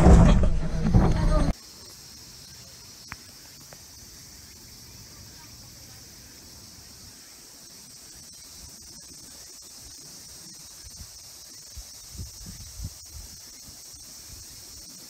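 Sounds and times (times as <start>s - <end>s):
insects chirping chorus: 0.8s - 15.0s.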